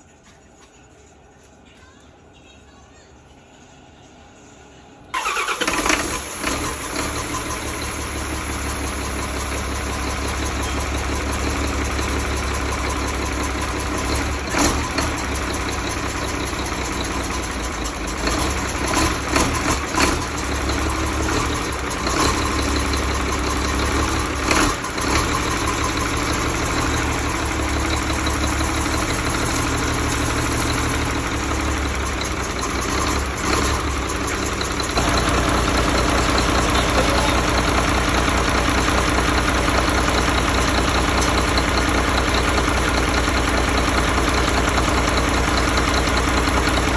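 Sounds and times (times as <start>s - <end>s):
car engine idling: 5.1s - 46.9s.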